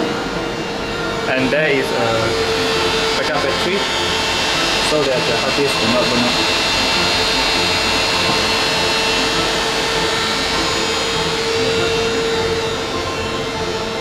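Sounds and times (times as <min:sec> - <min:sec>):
cooling fans whirring: 0:00.0 - 0:14.0.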